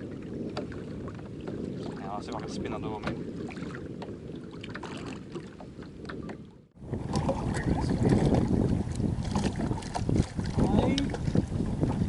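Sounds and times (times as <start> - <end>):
water moving around kayak: 0.0 - 12.0
wind buffeting microphone: 0.0 - 12.0.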